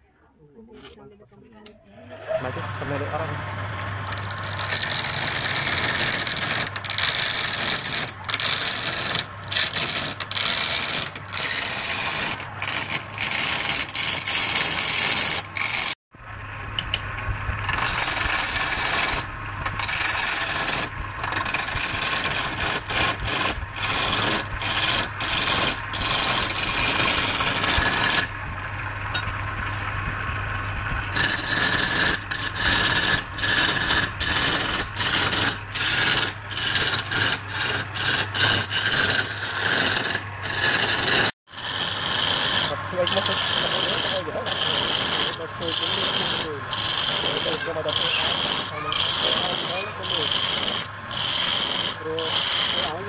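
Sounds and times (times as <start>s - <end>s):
lathe motor hum: 2.1s - 53.0s
chisel scraping wood on lathe: 3.9s - 16.0s, 17.6s - 53.0s.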